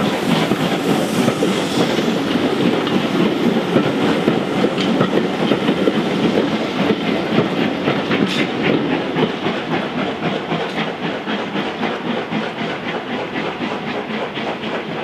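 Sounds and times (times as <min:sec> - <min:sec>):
steam hissing: 0:00.0 - 0:14.7
train coaches clattering: 0:00.0 - 0:15.0.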